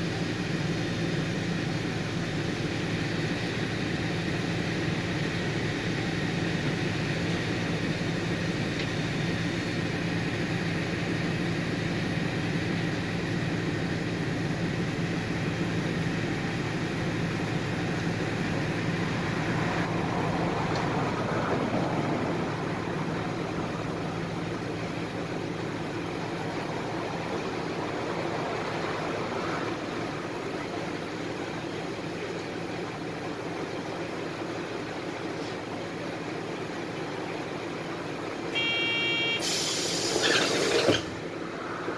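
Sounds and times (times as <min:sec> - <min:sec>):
bus engine idling hum: 0:00.0 - 0:41.9
passing traffic: 0:00.0 - 0:41.9.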